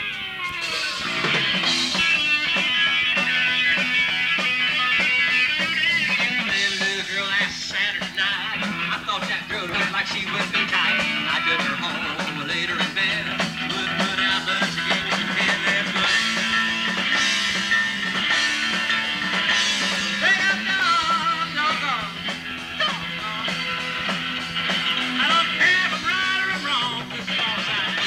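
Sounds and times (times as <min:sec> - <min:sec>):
live rock band playing: 0:00.0 - 0:28.0
drum kit strikes: 0:00.6 - 0:28.0.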